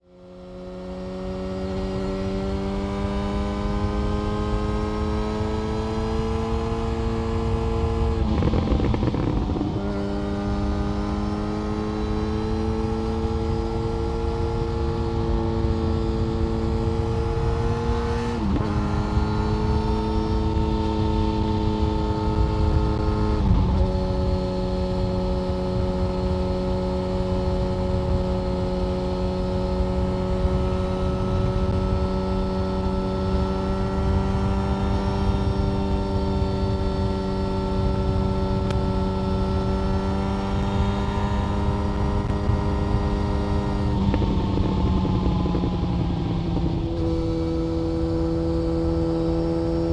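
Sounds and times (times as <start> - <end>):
motorcycle engine running hard: 0.1 - 49.9.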